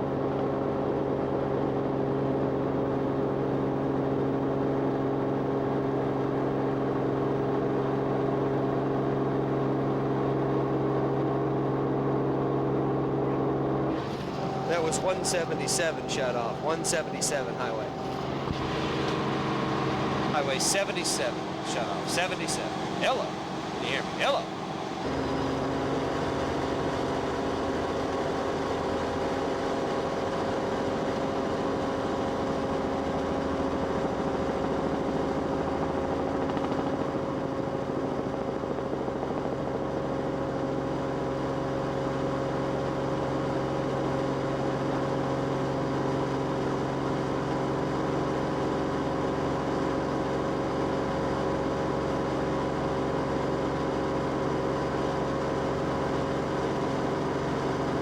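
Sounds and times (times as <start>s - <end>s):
aircraft engine drone in cabin: 0.0s - 58.0s.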